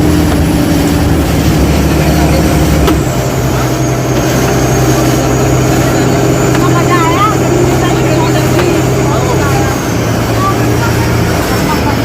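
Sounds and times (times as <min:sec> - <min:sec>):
motorboat engine running: 0:00.0 - 0:12.0
water rushing: 0:00.0 - 0:12.0.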